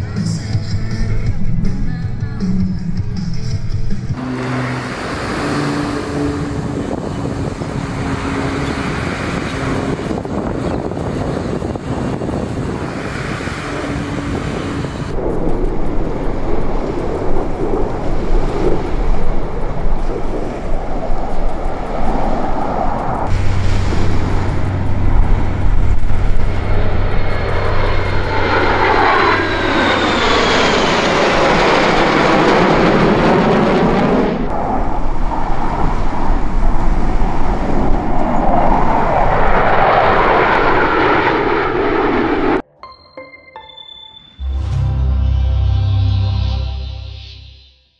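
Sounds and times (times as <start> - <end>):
turboprop aircraft droning: 0.0 - 42.7.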